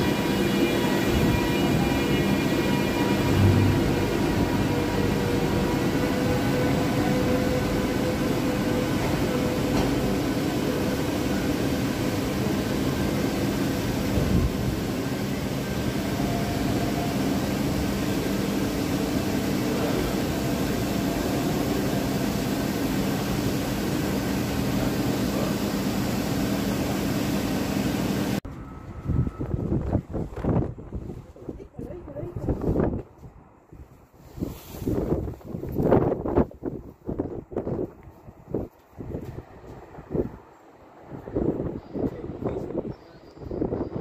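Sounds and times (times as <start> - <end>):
train hum and rush: 0.0 - 44.0.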